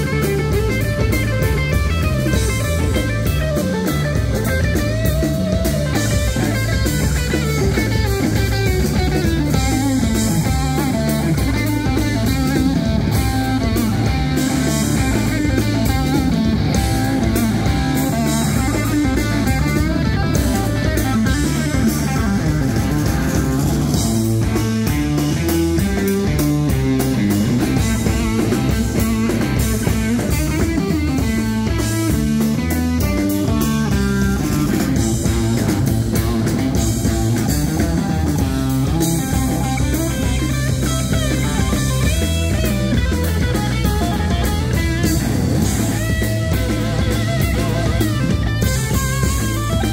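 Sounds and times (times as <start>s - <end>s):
drum kit: 0.0s - 49.9s
electric guitar: 0.0s - 49.9s.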